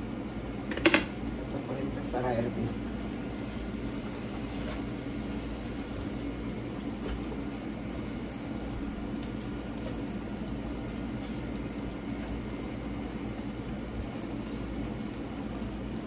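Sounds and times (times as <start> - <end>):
meat simmering in a frying pan: 0.0 - 16.0.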